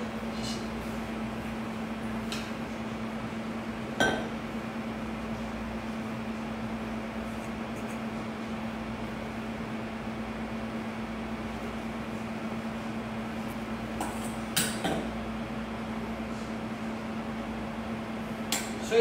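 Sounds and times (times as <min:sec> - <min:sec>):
fan hum: 0:00.0 - 0:19.0.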